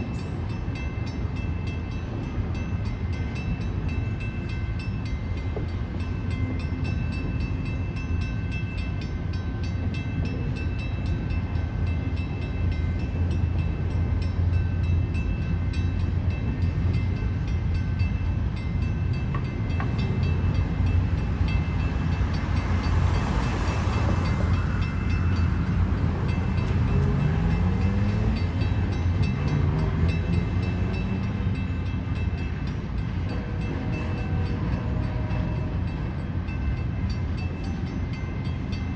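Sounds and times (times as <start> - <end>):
train rumbling past: 0.0 - 38.9.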